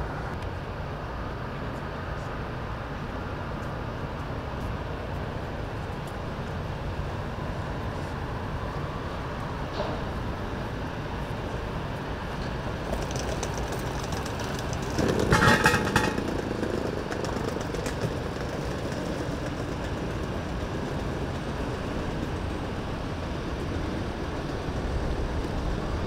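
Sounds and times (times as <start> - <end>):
outdoor traffic noise: 0.0 - 26.0.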